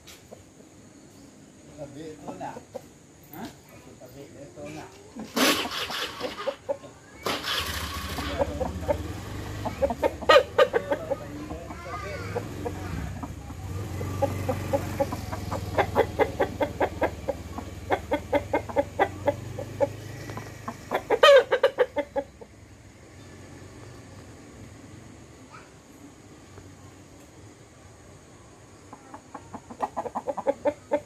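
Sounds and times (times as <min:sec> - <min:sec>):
chickens clucking: 0:00.0 - 0:03.6, 0:04.6 - 0:24.6, 0:28.5 - 0:31.0.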